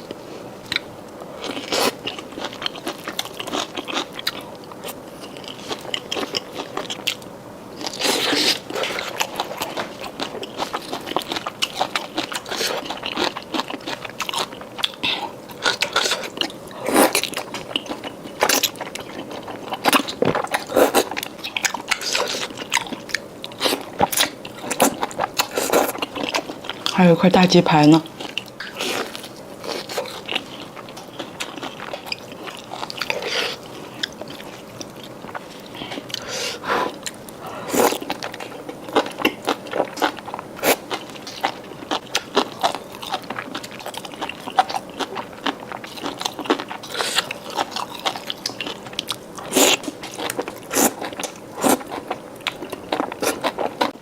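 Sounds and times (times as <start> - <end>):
crunchy chewing: 0.1 - 27.0, 28.0 - 54.0.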